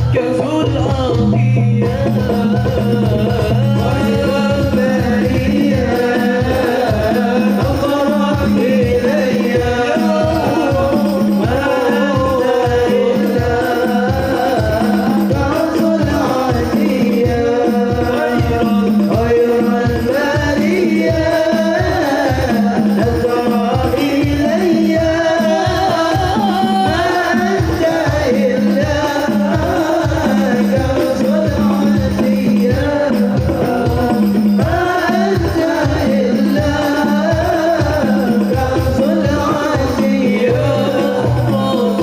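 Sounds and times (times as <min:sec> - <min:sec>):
hand drum beat: 0:00.0 - 0:42.0.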